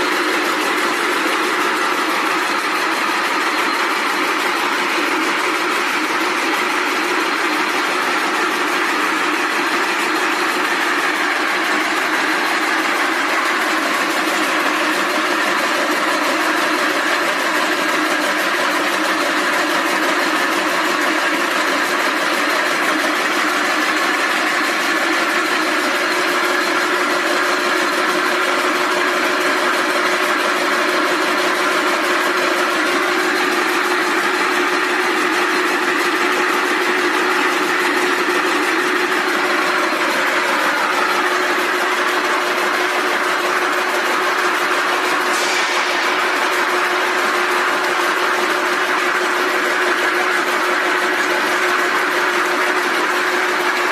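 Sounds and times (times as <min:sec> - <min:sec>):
braiding machine running: 0:00.0 - 0:53.9.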